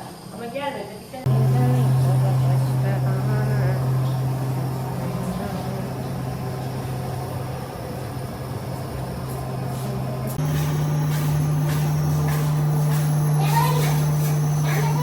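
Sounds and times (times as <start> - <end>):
low machine hum: 1.1 - 15.0.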